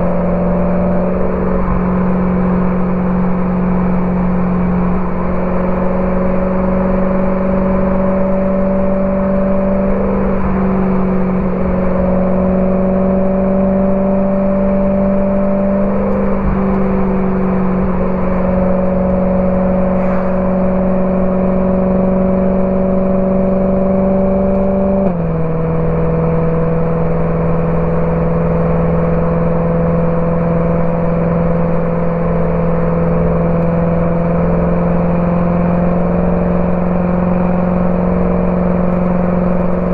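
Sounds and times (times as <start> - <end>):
car engine cruising drone: 0.0 - 39.9.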